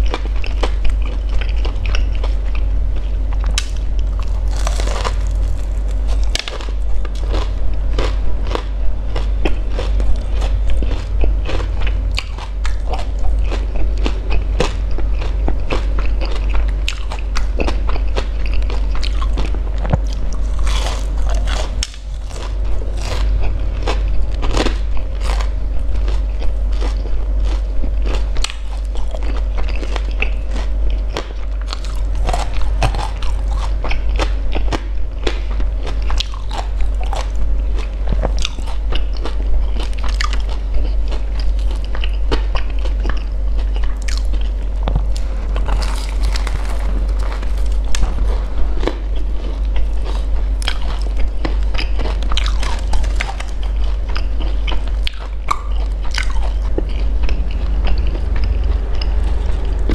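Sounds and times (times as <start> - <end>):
chewing: 0.0 - 59.9
crisp crunching: 0.0 - 59.9
steady low hum: 0.0 - 59.9.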